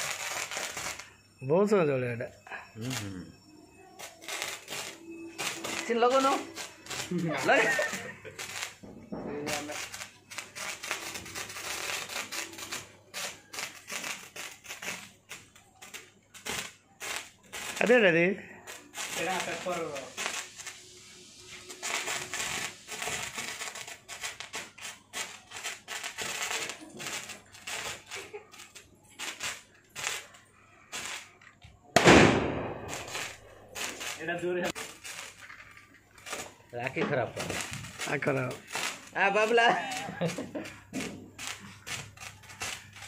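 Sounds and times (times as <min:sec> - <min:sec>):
firework fountain crackling pops: 0:00.0 - 0:43.0.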